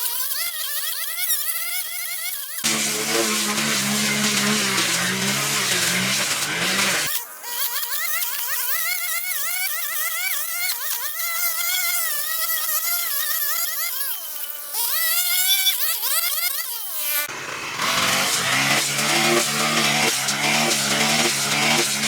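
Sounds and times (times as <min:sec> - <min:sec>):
small motor whining: 0:00.0 - 0:22.0.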